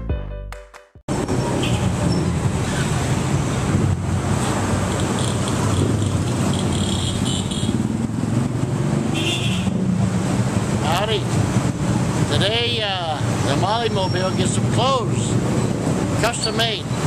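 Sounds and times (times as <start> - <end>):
vehicle engines rumbling: 1.1 - 17.0.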